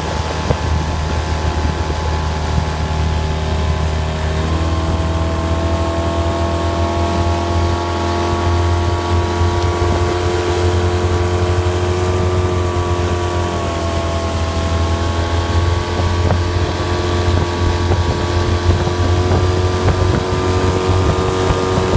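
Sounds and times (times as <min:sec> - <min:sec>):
motorboat engine running: 0:00.0 - 0:21.9
wake rushing: 0:00.0 - 0:21.9
wind on microphone: 0:00.0 - 0:21.9.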